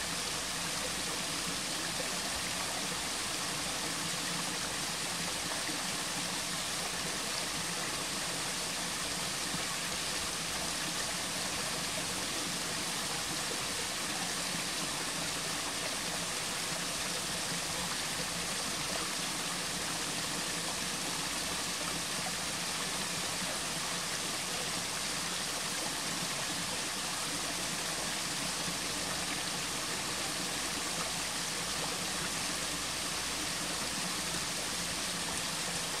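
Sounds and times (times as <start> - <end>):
waterfall splashing over rocks: 0.0 - 36.0.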